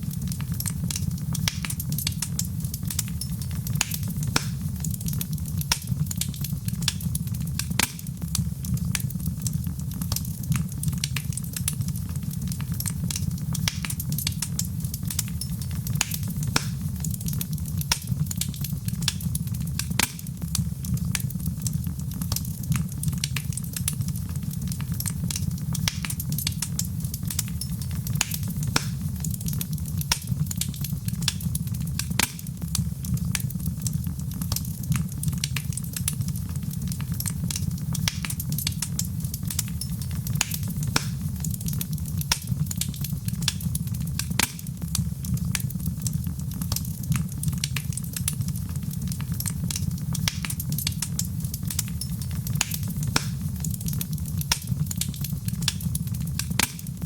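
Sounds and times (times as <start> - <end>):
fire crackling: 0.0 - 57.0
fire popping and snapping: 0.0 - 57.0.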